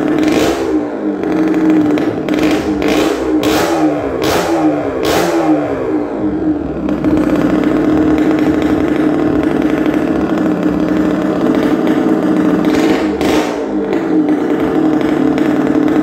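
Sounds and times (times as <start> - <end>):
motorcycle engines at high revs: 0.0 - 16.0.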